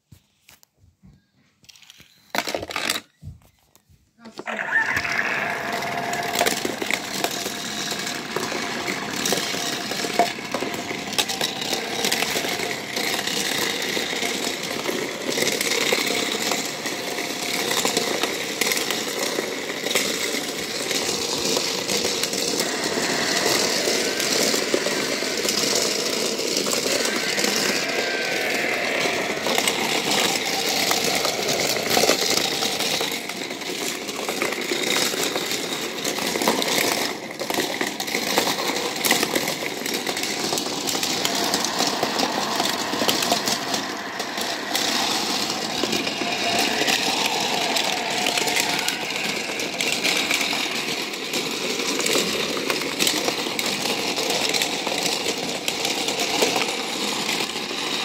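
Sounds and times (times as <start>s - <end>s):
metal toy cars clattering: 1.6s - 3.2s, 4.6s - 58.0s
toy motor running: 4.3s - 58.0s.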